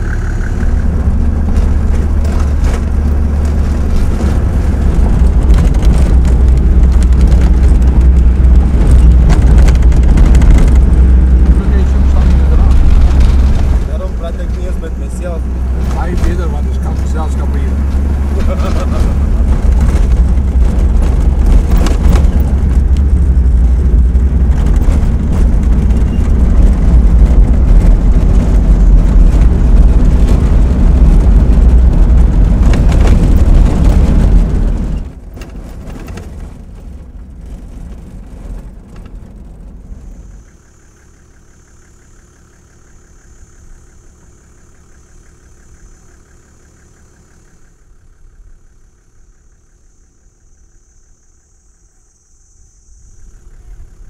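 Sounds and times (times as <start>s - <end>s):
vehicle rumbling on dirt track: 0.0s - 54.0s.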